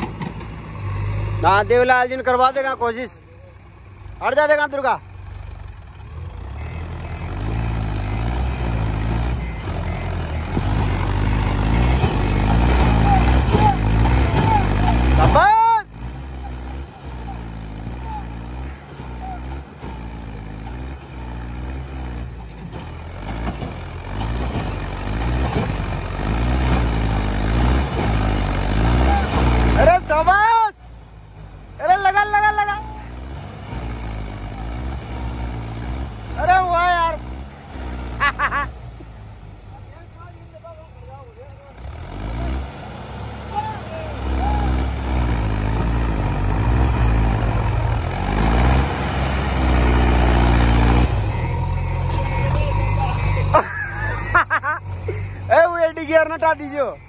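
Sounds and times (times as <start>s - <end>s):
tractor diesel engine labouring: 0.0s - 57.0s.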